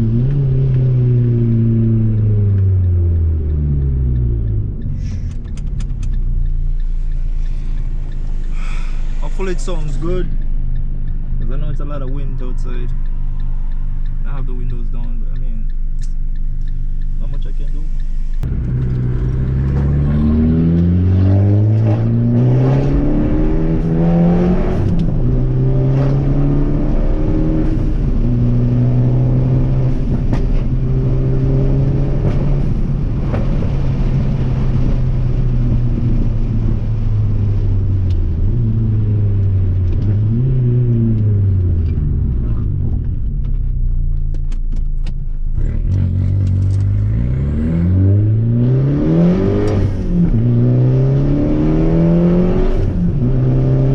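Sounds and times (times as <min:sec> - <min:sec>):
car engine revving through gears: 0:00.0 - 0:53.9
wind and road noise: 0:00.0 - 0:53.9.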